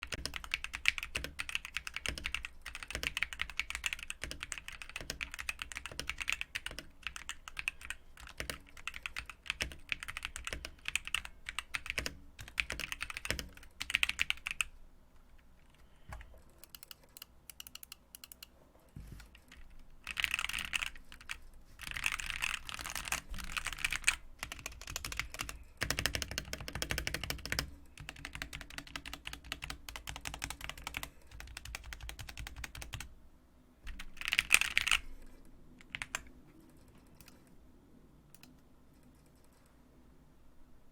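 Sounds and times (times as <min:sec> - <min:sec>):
mechanical keyboard typing: 0:00.0 - 0:14.7, 0:16.1 - 0:18.5, 0:19.2 - 0:33.1, 0:33.9 - 0:35.1, 0:35.8 - 0:37.4.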